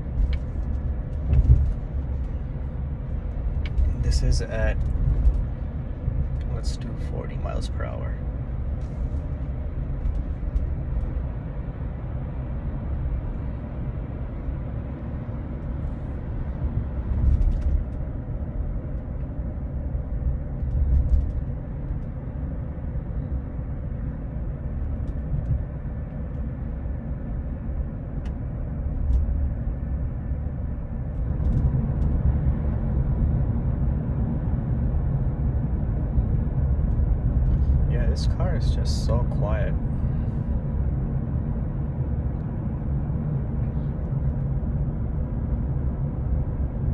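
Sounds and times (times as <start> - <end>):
road and tyre noise in car: 0.0 - 46.9.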